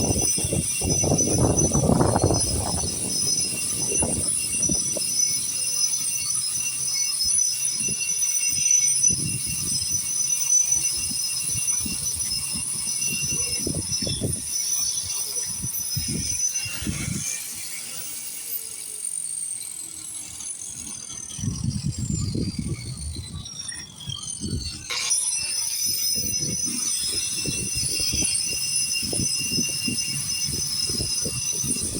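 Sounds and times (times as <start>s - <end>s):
power grinder whining: 0.0s - 31.9s.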